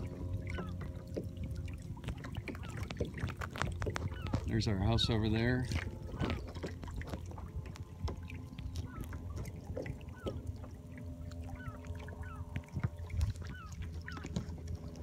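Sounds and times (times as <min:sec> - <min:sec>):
low wind rumble: 0:00.0 - 0:15.0
water lapping against hull: 0:00.0 - 0:15.0.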